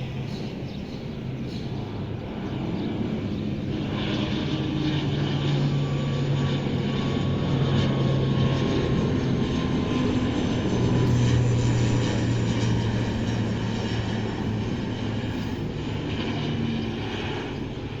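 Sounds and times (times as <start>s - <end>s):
turboprop propeller drone: 0.0s - 18.0s.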